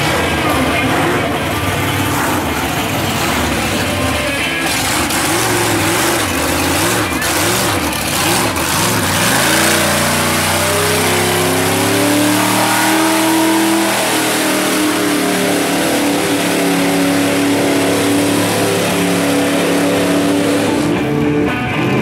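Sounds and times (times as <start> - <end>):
truck engine under hard throttle: 0.0 - 22.0.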